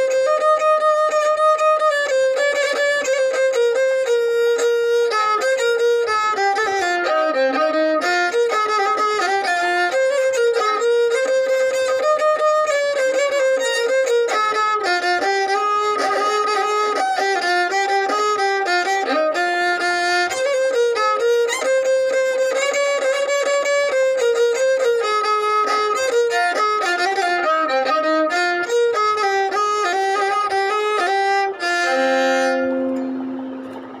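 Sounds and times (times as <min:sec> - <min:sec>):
violin melody: 0:00.0 - 0:34.0.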